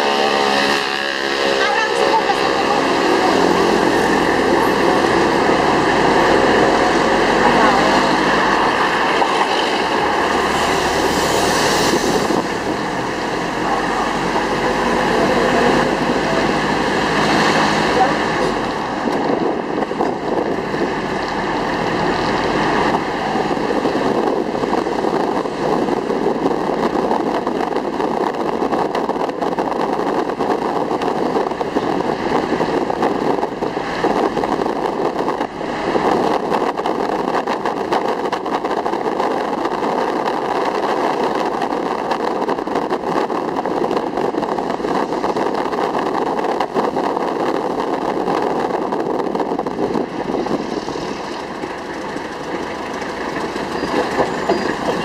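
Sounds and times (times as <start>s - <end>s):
diesel engine running: 0.0s - 55.0s
road noise: 0.0s - 55.0s.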